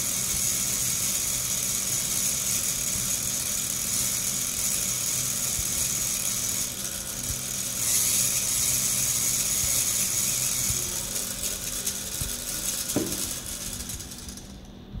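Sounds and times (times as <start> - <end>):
small electric motor whirring: 0.0 - 14.8.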